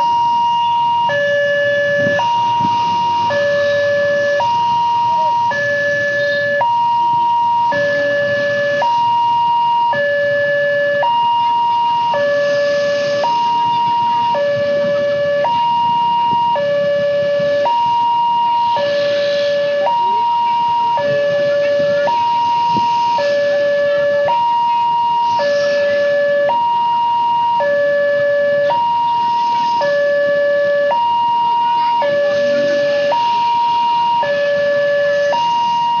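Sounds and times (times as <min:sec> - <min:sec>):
two-tone crossing warning siren: 0:00.0 - 0:36.0.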